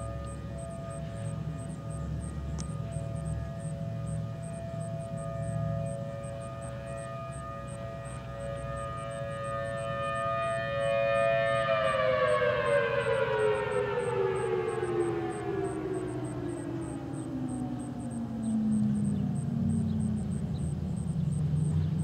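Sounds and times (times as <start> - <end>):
civil defense sirens: 0.0 - 22.0.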